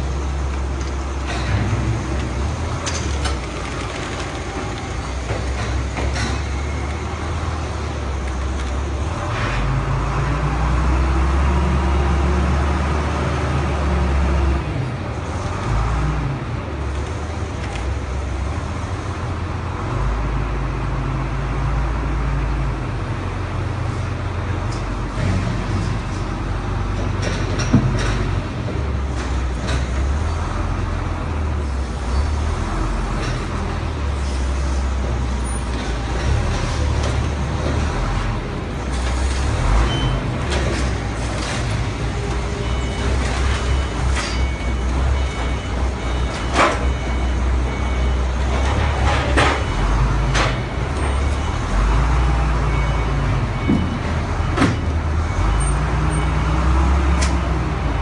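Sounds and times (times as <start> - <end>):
heavy machine engine revving: 0.0 - 58.0.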